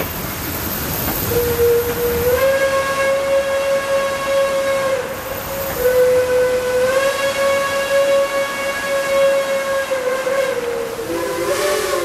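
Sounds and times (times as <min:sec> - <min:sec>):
steam locomotive whistle: 0:01.3 - 0:12.0.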